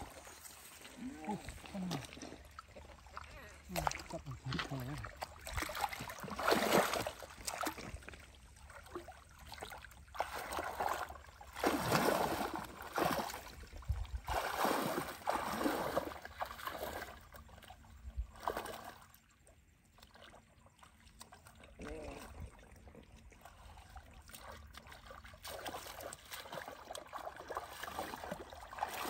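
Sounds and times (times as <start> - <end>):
muddy water sloshing and splashing: 0.0 - 29.0.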